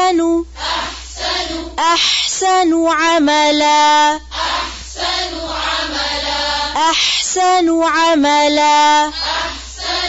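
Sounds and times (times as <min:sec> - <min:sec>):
woman reciting melodically: 0:00.0 - 0:10.0.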